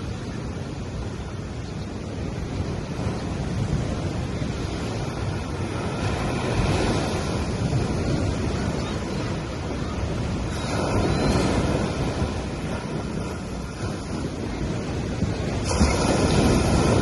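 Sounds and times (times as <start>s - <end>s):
small waves washing on sand: 0.0s - 17.0s
wind rumbling on microphone: 0.0s - 17.0s.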